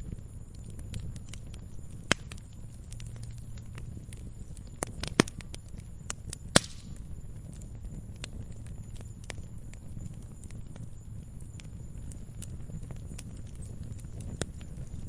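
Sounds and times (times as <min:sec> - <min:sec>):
fire popping and snapping: 0:00.0 - 0:15.0
low rumble of flames: 0:00.0 - 0:15.0.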